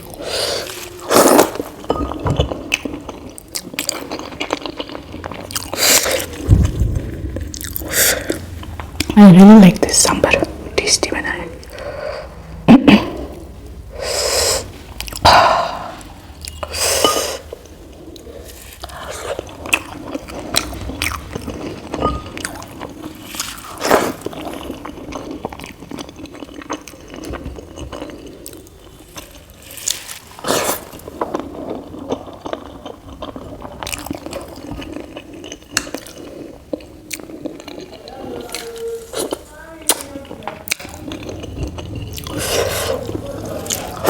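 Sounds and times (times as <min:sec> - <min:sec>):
chewing and mouth sounds: 0:00.0 - 0:09.2, 0:14.6 - 0:44.0.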